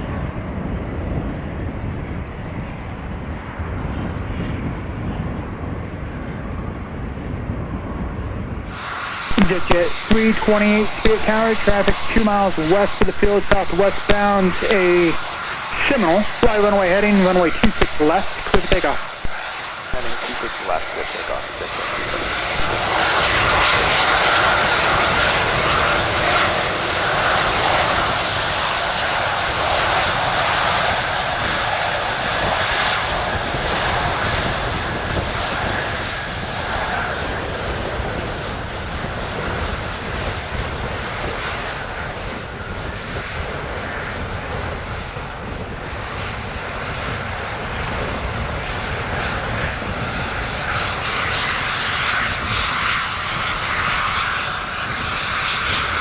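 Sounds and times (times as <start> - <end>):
jet engine roar on takeoff: 0.0 - 56.0.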